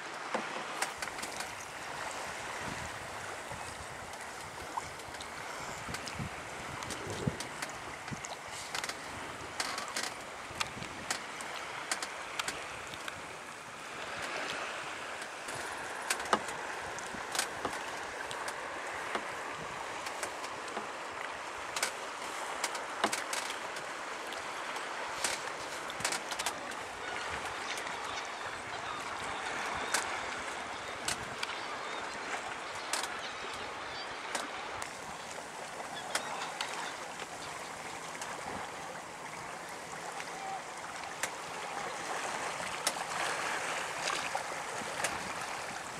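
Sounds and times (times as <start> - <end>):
water lapping and trickling: 0.0 - 45.9.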